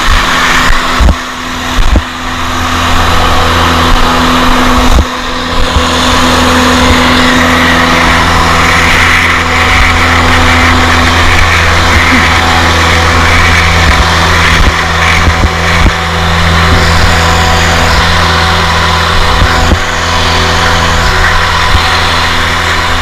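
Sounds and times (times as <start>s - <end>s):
bark blower engine running: 0.0s - 23.0s.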